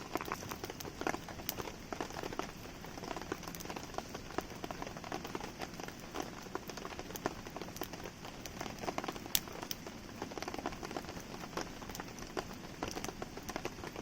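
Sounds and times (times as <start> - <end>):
campfire crackling: 0.0 - 14.0
steady rainfall: 0.0 - 14.0.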